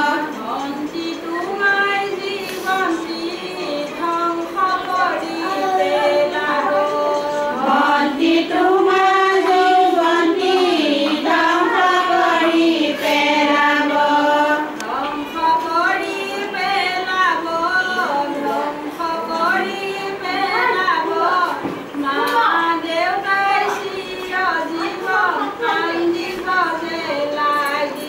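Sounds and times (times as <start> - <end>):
women singing unaccompanied: 0.0 - 28.0.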